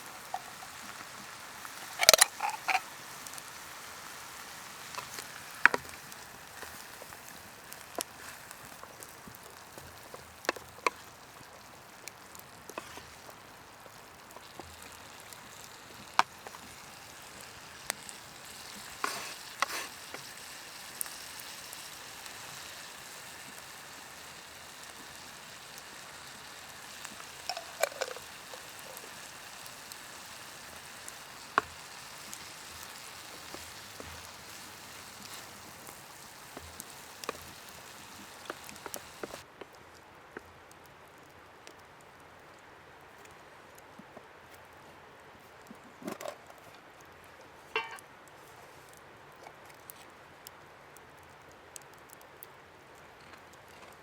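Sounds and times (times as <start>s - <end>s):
fire sizzling and crackling: 0.0s - 39.5s, 45.3s - 54.0s.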